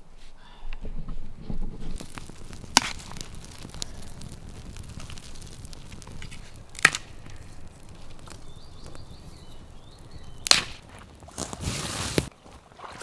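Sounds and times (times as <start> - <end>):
wood crackling and snapping: 1.7 - 12.3.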